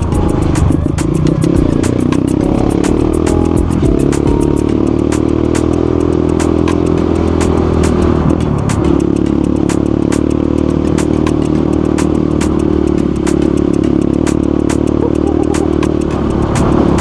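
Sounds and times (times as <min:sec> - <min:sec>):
motorcycle engine cruising: 0:00.0 - 0:17.0
sharp ticks: 0:00.0 - 0:17.0.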